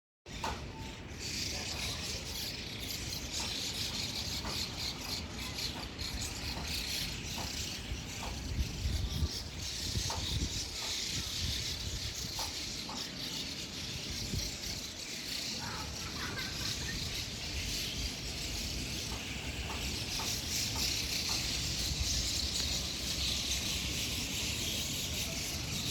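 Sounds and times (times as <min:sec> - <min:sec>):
flock of birds chattering: 0:00.3 - 0:25.9.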